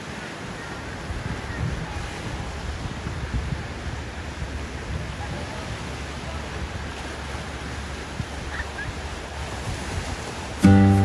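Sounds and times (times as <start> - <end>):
wind rushing over microphone: 0.0 - 10.9.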